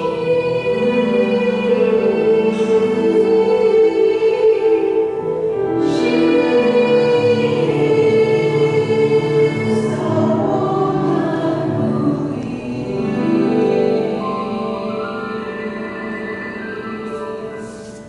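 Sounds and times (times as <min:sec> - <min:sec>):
women's chorus singing: 0:00.0 - 0:17.1.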